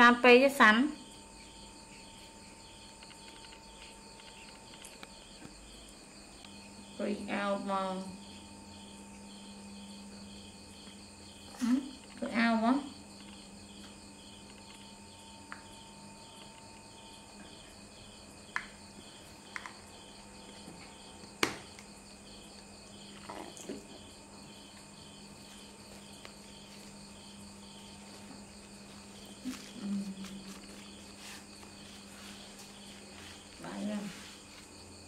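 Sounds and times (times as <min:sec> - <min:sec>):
crickets chirping: 0:00.0 - 0:35.0
low steady hum: 0:00.0 - 0:35.0.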